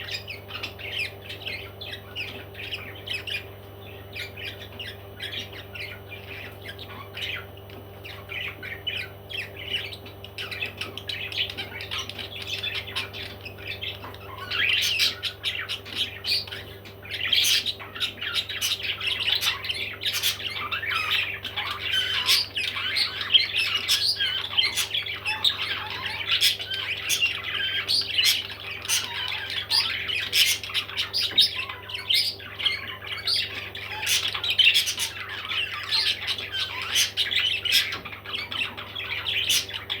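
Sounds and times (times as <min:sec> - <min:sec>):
baby parrots squawking: 0:00.0 - 0:40.0.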